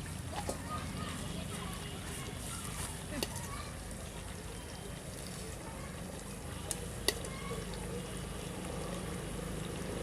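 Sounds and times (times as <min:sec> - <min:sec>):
curry frying in a pot: 0:00.0 - 0:10.0.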